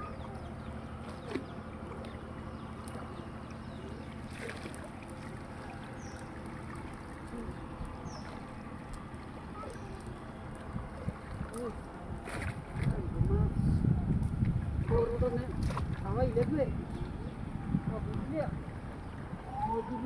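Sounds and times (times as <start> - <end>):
steady low hum: 0.0 - 20.0
water swishing and lapping: 0.0 - 20.0.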